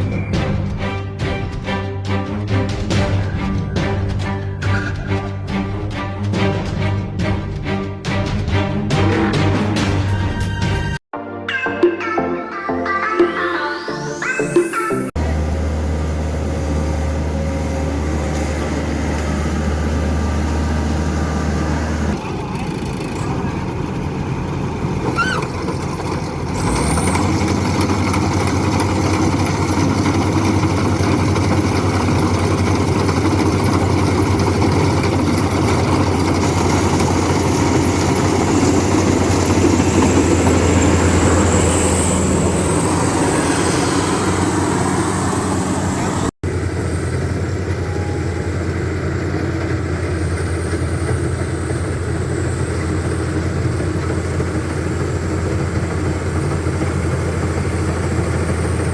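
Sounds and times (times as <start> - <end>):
large engine droning: 0.0 - 11.0, 15.0 - 58.9.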